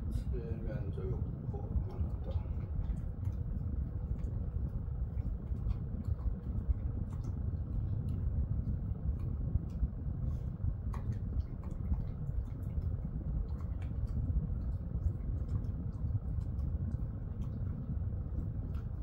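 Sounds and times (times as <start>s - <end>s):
steady low rumble: 0.0s - 19.0s
dog chewing and licking: 0.3s - 19.0s.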